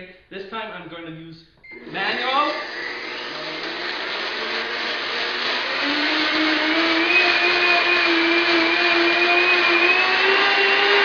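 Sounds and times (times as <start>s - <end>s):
blender motor whine: 1.7s - 11.0s.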